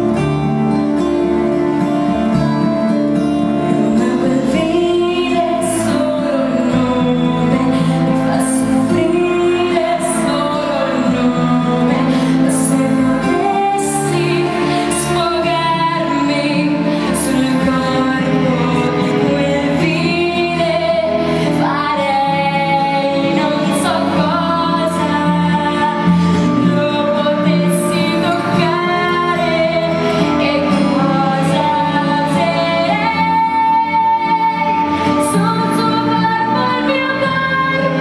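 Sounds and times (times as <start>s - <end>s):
instrumental accompaniment: 0.0s - 38.0s
woman singing ballad: 2.3s - 38.0s.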